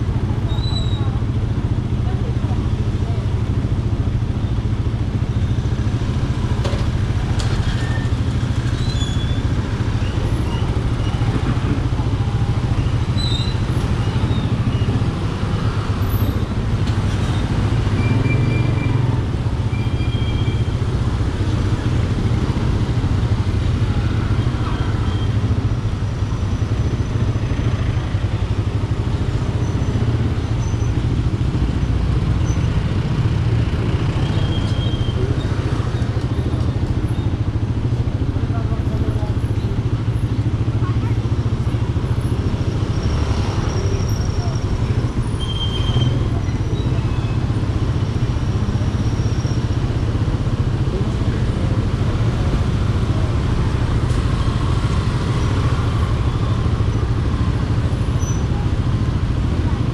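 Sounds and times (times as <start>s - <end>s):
motorcycle engine humming: 0.0s - 59.9s
street traffic: 0.0s - 59.9s.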